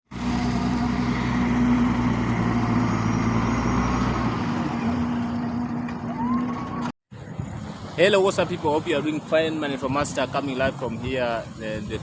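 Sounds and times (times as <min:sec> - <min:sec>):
tyre and traffic noise: 0:00.1 - 0:12.0.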